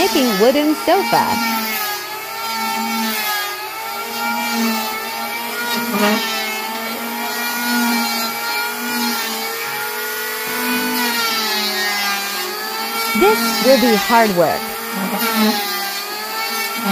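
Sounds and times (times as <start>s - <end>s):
electric planer whining: 0.0s - 16.9s.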